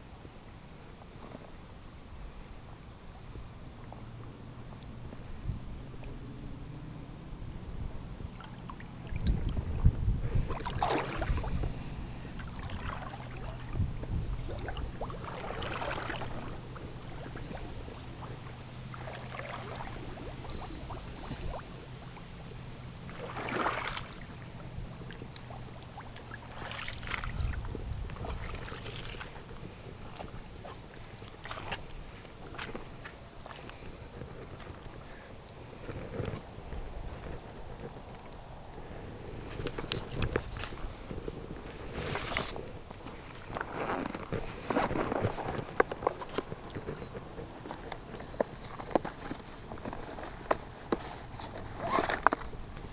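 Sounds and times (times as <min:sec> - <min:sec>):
river water splashing: 0:02.6 - 0:52.9.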